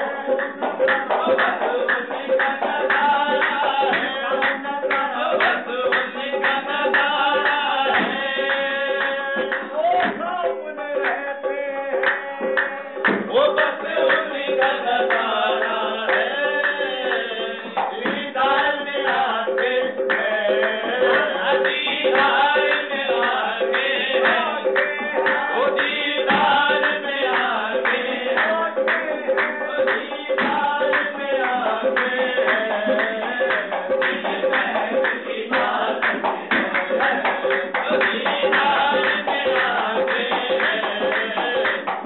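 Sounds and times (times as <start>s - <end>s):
chorus of men singing: 0.0s - 42.0s
drum strokes: 0.0s - 42.0s
hand claps: 0.0s - 42.0s
harmonium chords: 0.0s - 42.0s
lead singer: 0.0s - 42.0s.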